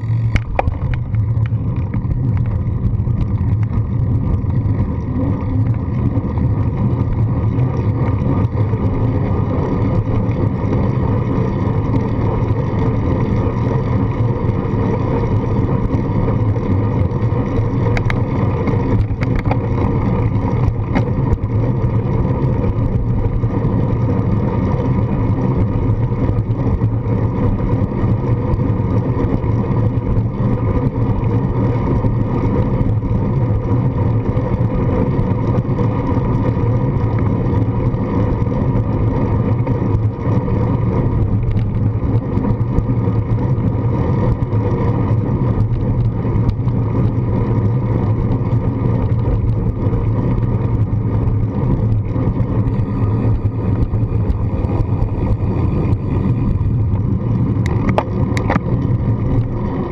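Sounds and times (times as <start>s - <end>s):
tyre rumble on rough asphalt: 0.0s - 59.9s
wind over camera: 0.0s - 59.9s.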